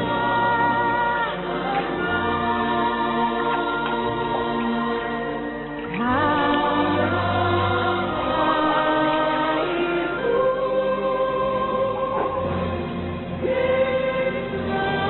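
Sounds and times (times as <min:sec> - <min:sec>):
choir-like voices singing: 0:00.0 - 0:15.0
instrumental backing music: 0:00.0 - 0:15.0.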